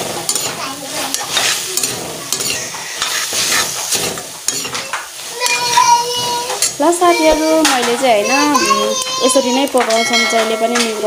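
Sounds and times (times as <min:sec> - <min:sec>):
curry sizzling: 0:00.0 - 0:11.0
ladle scraping a steel pan: 0:00.3 - 0:11.0.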